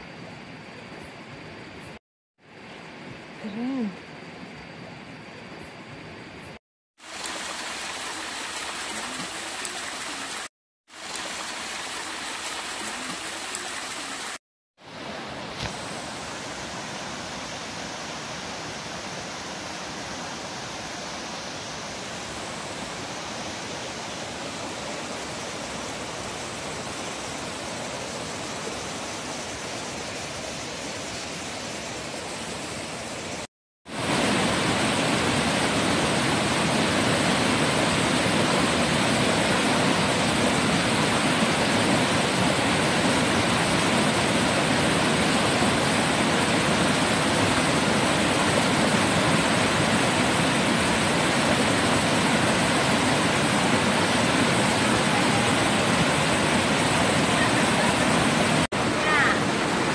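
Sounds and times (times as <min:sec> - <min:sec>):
river rushing over boulders: 0:07.0 - 0:59.9.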